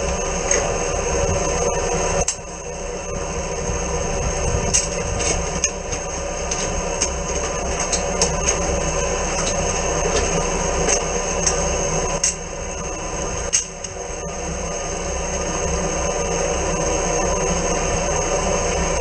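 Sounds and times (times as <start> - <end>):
jetter engine and pump running: 0.0 - 19.0.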